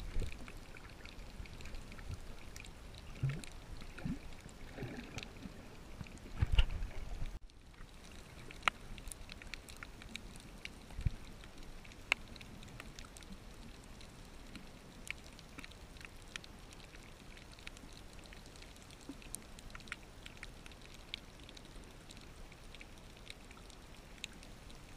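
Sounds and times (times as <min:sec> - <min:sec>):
low underwater hiss: 0:00.0 - 0:24.9
sharp clicks and crackles: 0:00.0 - 0:24.9.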